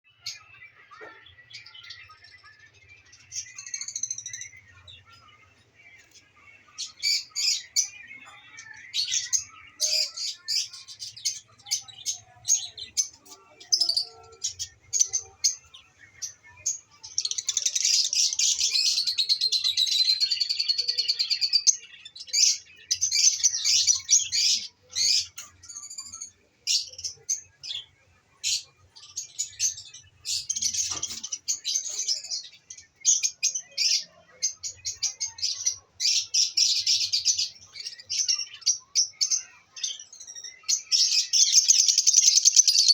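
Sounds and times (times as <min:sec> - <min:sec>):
lovebirds chirping: 0:00.1 - 0:42.9.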